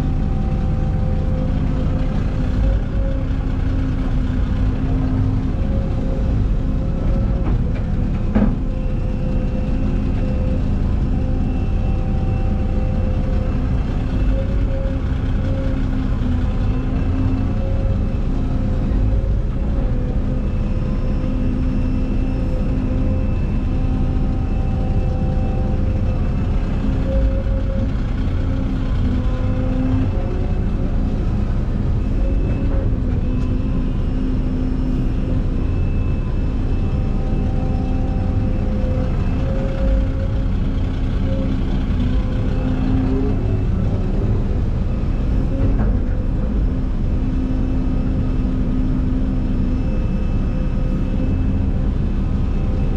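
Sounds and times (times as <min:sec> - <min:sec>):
diesel engine running under load: 0:00.0 - 0:52.9.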